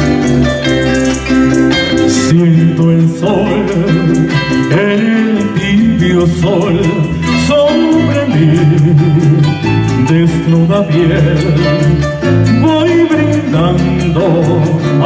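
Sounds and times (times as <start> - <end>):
electric bass: 0.0 - 15.0
electric guitar: 0.0 - 15.0
live band playing: 0.0 - 15.0
man singing into a microphone: 2.0 - 15.0.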